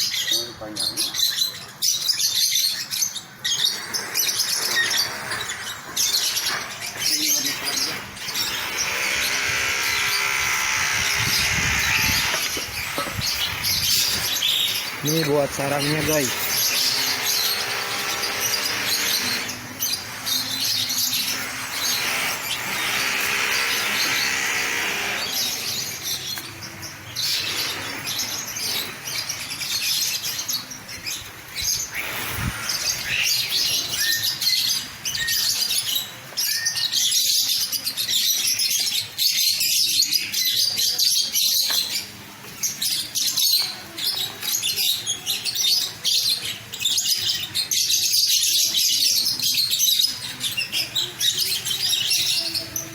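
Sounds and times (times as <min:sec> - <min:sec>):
lovebirds chirping: 0:00.0 - 0:52.9.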